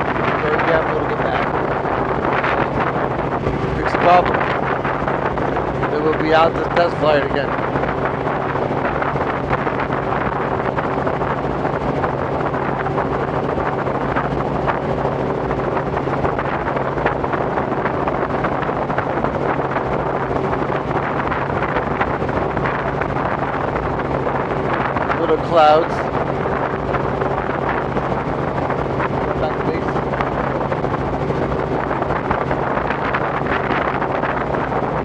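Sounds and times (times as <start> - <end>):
helicopter engine and rotor drone: 0.0 - 35.0
wind rushing over microphone: 0.0 - 35.0.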